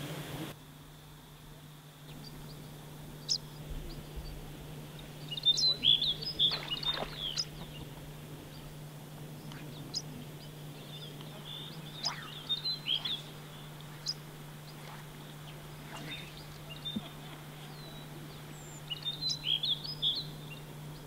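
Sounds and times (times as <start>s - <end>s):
steady low hum: 0.0s - 21.0s
small birds chirping: 2.0s - 21.0s.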